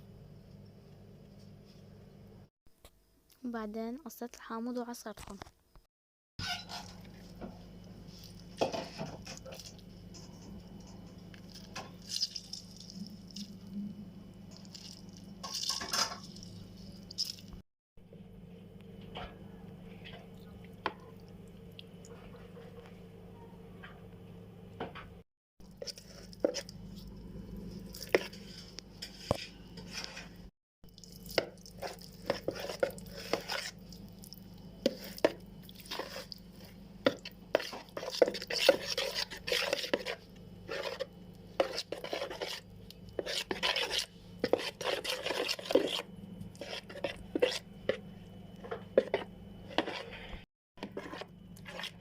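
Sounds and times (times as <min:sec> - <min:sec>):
steady low hum: 0:06.8 - 0:52.0.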